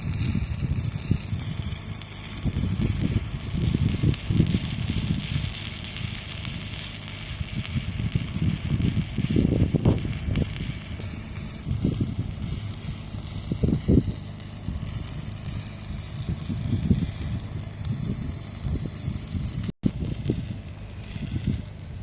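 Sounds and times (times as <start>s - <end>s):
arc welding crackling: 0.0s - 22.0s
low rumbling gusts: 0.0s - 22.0s.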